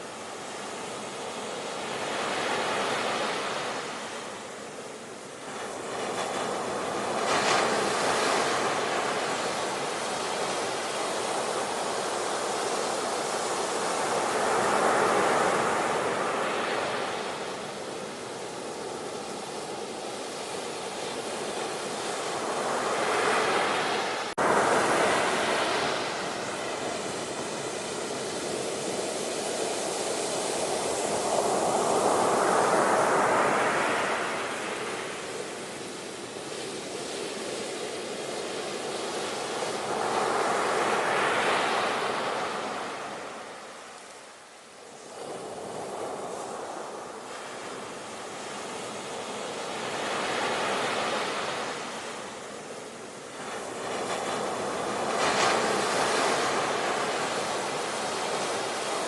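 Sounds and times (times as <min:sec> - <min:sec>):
ocean waves breaking: 0:05.3 - 0:44.0, 0:44.8 - 0:59.0.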